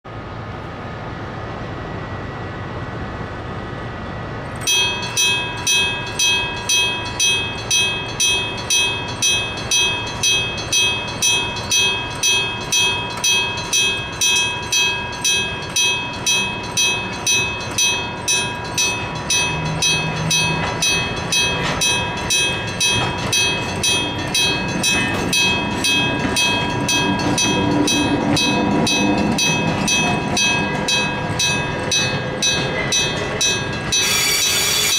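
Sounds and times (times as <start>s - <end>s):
electric locomotive running: 0.1s - 34.9s
level crossing warning bell: 4.6s - 34.9s.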